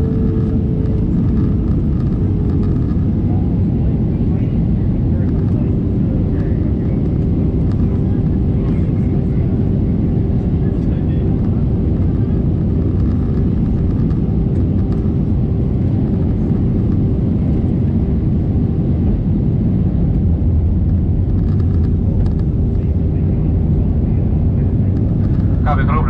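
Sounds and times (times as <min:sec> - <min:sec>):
airliner cabin roar: 0:00.0 - 0:26.0
constant hum: 0:00.0 - 0:26.0.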